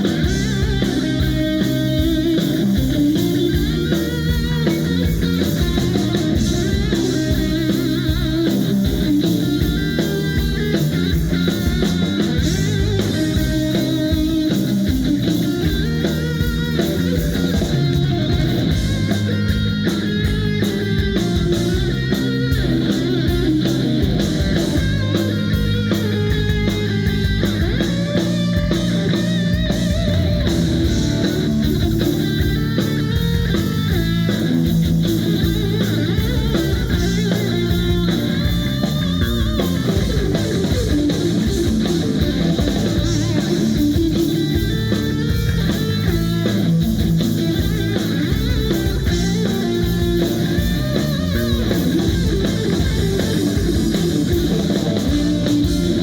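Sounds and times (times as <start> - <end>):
bass: 0.0 - 56.0
drum kit: 0.0 - 56.0
electric guitar: 0.0 - 56.0.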